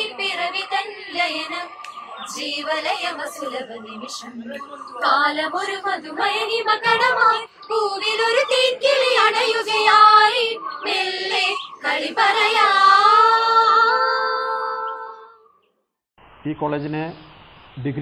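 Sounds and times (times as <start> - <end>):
young women singing together: 0.0 - 15.4.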